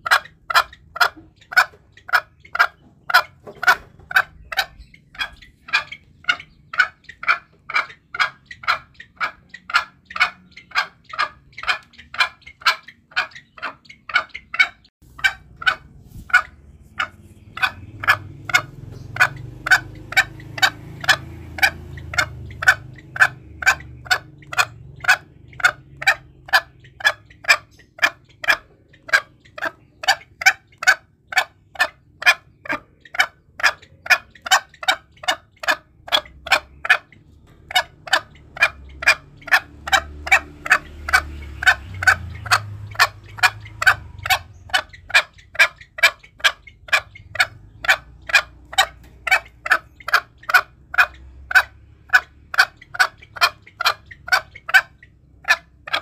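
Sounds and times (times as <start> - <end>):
junglefowl clucking: 0.0 - 56.0
low background rumble: 0.0 - 56.0.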